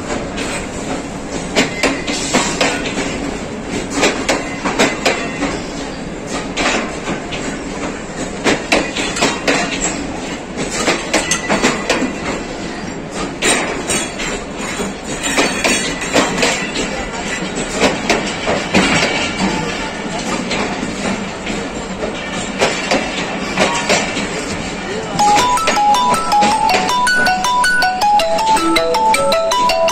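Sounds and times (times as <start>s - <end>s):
train wheels clattering over rail joints: 0.0s - 25.0s.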